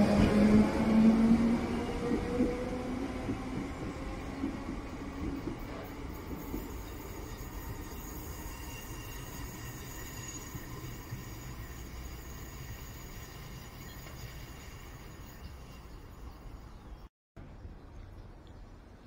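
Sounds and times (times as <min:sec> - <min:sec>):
train whine: 0:00.0 - 0:16.7
electric train rumbling: 0:00.0 - 0:16.9.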